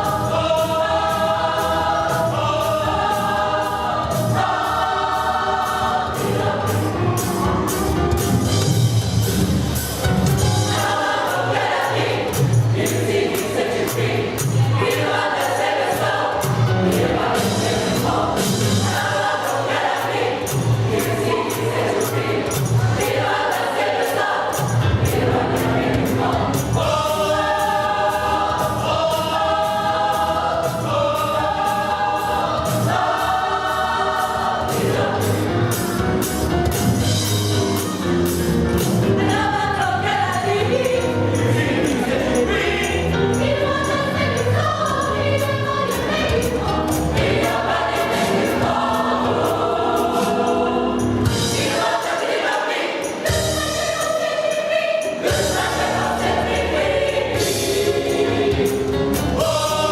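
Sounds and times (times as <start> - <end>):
gospel choir singing: 0.0 - 9.4, 10.0 - 59.9.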